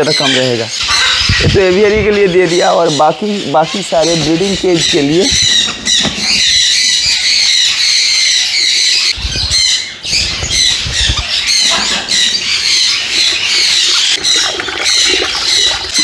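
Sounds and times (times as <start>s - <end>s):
parrots squawking: 0.0s - 16.0s.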